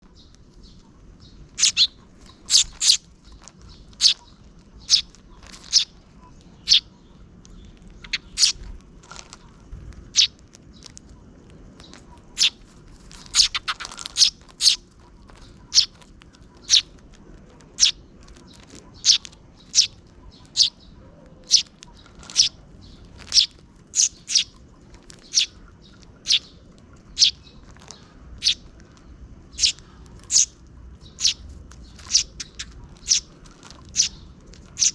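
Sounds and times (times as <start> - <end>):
sparrows chirping: 0.0 - 34.9.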